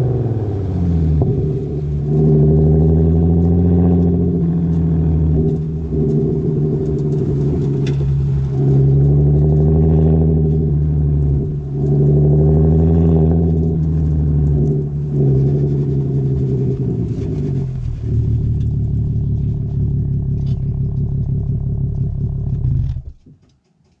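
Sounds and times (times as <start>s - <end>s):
car exhaust note: 0.0s - 23.2s.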